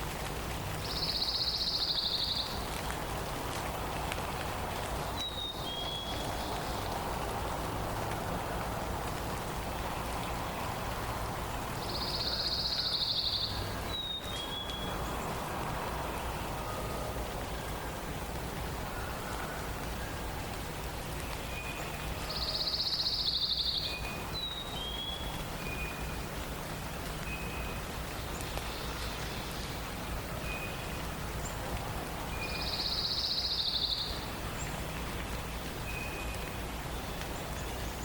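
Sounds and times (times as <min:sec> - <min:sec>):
background hiss: 0:00.0 - 0:38.0.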